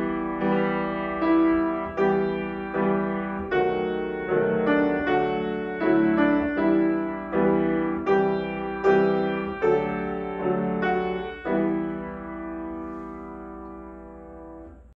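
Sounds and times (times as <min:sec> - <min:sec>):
grand piano playing a hymn: 0:00.0 - 0:14.9.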